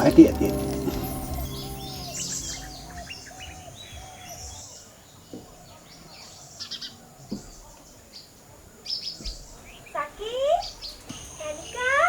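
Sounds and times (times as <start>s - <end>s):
birds chirping and trilling: 0.0s - 7.0s, 9.0s - 12.0s.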